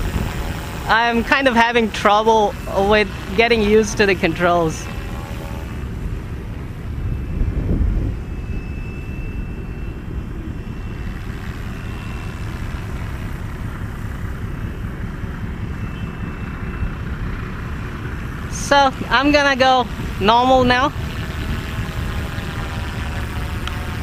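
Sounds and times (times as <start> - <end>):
rc helicopter motor whine: 0.0 - 24.0
wind rumble on microphone: 0.0 - 24.0.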